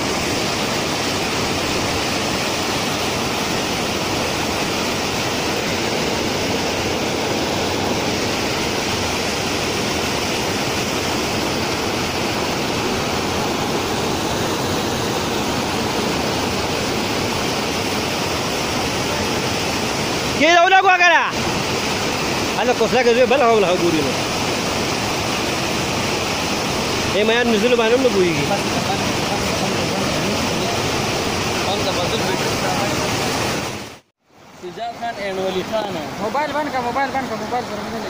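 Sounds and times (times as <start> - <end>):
water rushing over a weir: 0.0 - 38.0.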